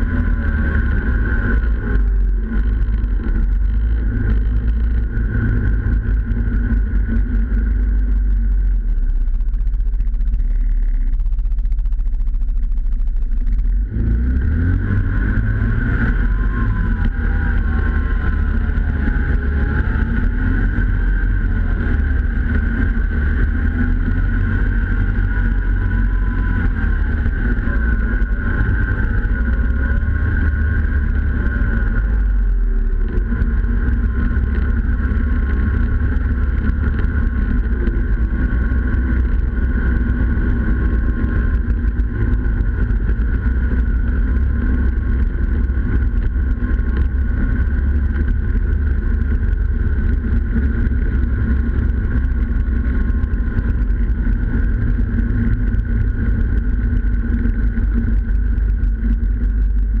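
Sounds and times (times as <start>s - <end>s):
snowmobile engine running: 0.0s - 60.0s.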